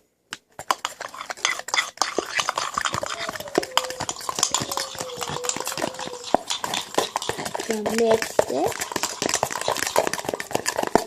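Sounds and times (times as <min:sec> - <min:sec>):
utensil stirring in a bowl: 0:00.5 - 0:11.0.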